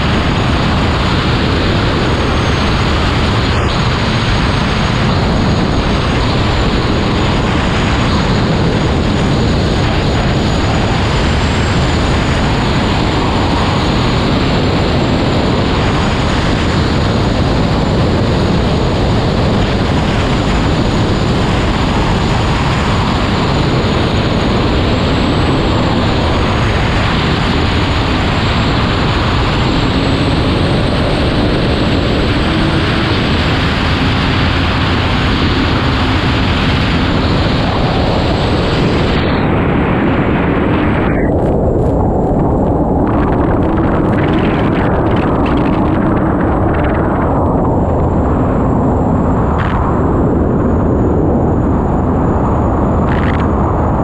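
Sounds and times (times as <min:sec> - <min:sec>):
turbine engine high whine: 0:00.0 - 0:54.0
wind and water rush: 0:00.0 - 0:54.0.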